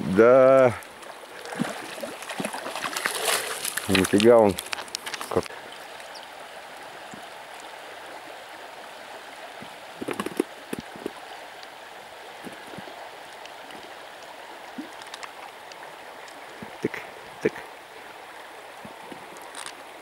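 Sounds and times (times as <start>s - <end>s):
shallow river flowing: 0.0s - 20.0s.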